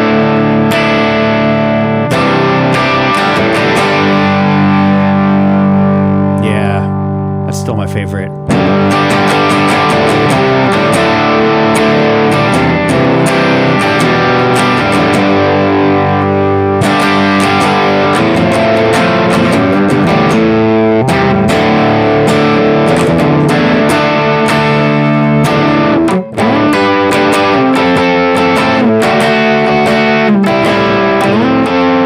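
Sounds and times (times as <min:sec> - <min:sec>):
distorted electric guitar chords: 0:00.0 - 0:32.0.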